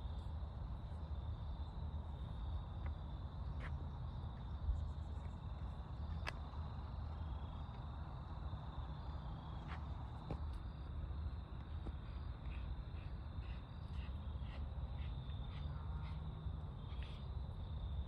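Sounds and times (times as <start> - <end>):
insects trilling: 1.1 - 18.0.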